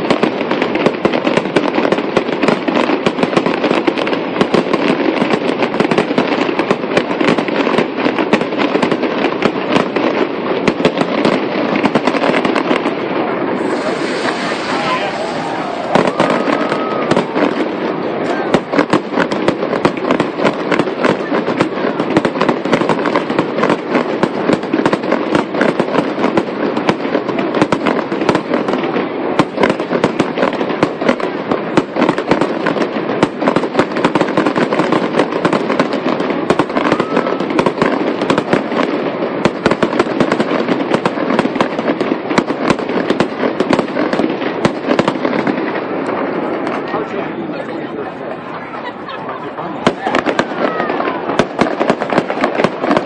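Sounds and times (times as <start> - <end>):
fireworks cracking and popping: 0.0 - 53.0.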